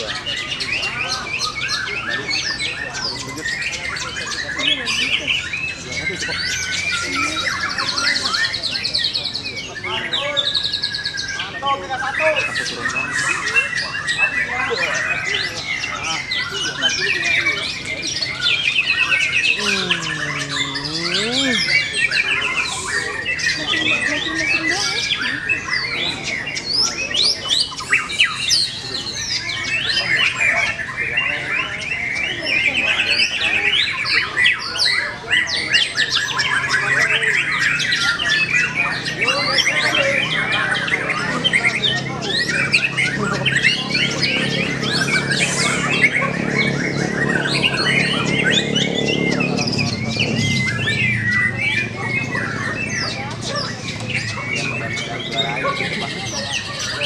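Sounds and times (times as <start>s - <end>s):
birds singing in chorus: 0.0s - 57.0s.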